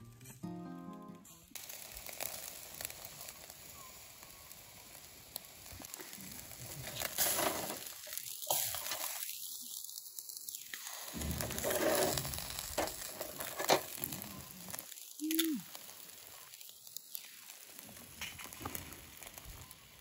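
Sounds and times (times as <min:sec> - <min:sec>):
crackles and pops: 0:00.1 - 0:20.0
fish sizzling on a grill: 0:01.4 - 0:20.0.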